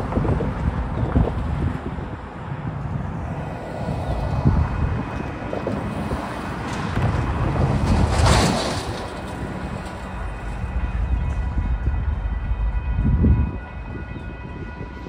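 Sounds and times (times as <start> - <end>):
road traffic passing: 0.0 - 15.0
wind buffeting microphone: 0.0 - 15.0.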